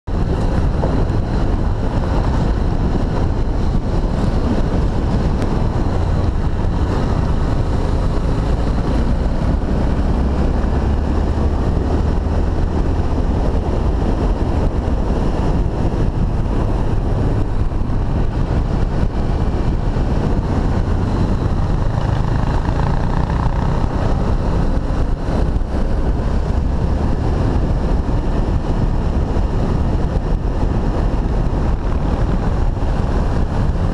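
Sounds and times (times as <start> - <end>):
motorcycle engine running: 0.0 - 33.9
wind noise on microphone: 0.0 - 33.9.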